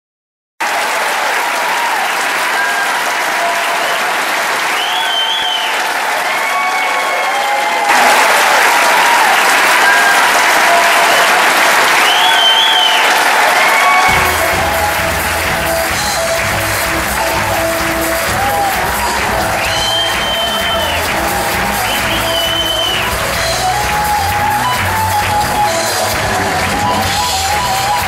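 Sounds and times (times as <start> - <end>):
audience applauding: 0.6 - 28.0.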